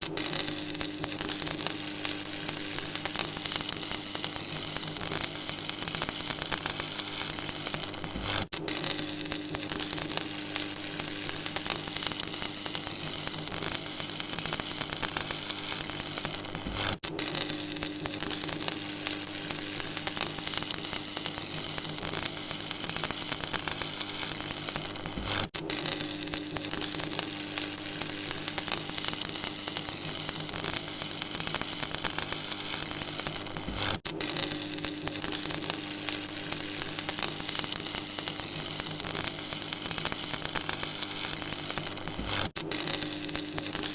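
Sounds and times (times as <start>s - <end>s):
electrical crackling hiss: 0.2s - 43.9s.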